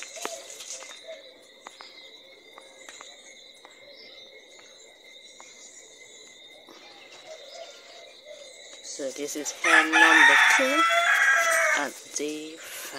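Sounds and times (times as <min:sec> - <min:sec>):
high-pitched insect drone: 0:00.0 - 0:12.9.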